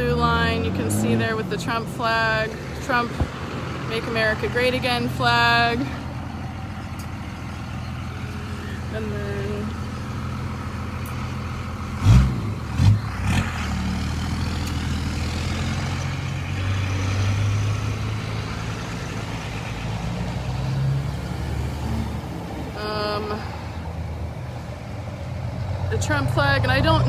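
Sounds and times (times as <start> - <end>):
cars and trucks driving past: 0.0 - 27.0.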